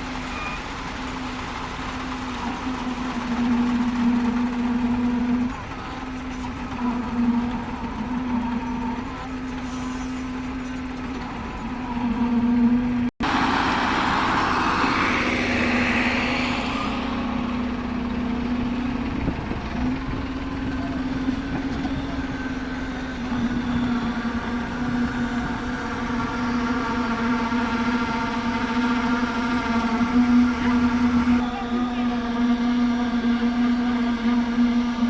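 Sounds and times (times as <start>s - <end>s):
machine engine humming: 0.0s - 35.0s.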